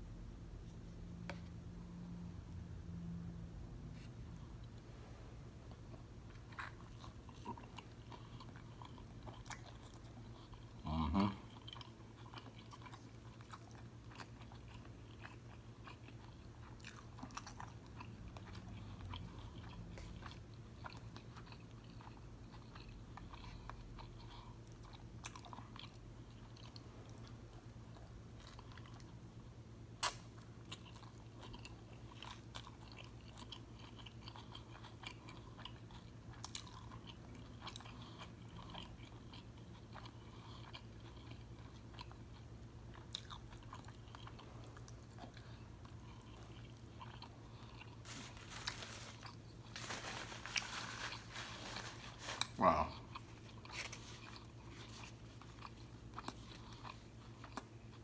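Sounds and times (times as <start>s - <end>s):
chewing and biting: 5.7s - 29.2s, 30.0s - 58.0s.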